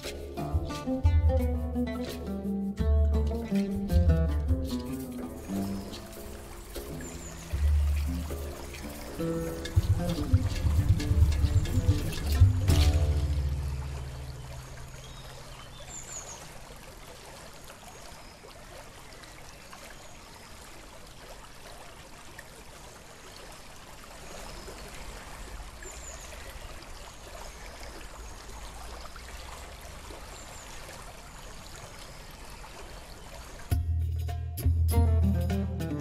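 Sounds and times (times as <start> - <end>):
trickle of shallow water: 0.0 - 33.9.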